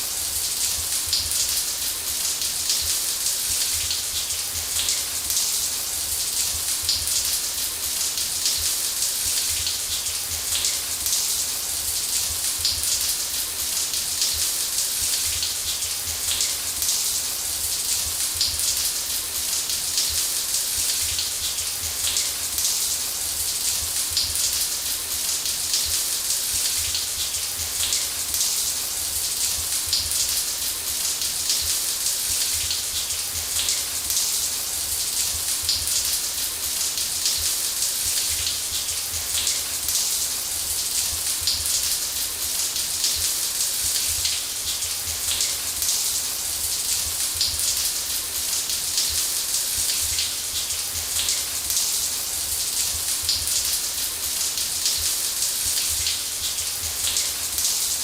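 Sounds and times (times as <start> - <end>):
shower water running: 0.0 - 58.0.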